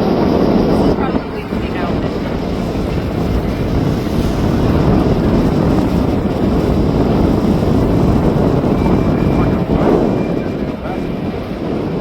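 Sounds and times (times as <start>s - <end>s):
aircraft engine rumble: 0.0s - 12.0s
wind buffeting microphone: 0.0s - 12.0s.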